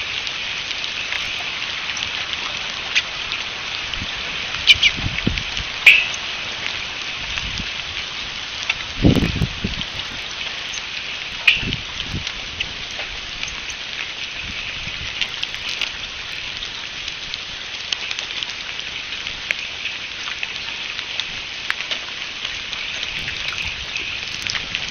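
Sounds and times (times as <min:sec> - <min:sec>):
rain falling: 0:00.0 - 0:24.9
raindrops ticking: 0:00.0 - 0:24.9.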